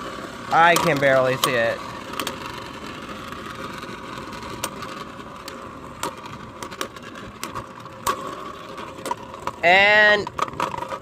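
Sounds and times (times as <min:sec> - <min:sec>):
spinning tops whirring: 0:00.0 - 0:11.0.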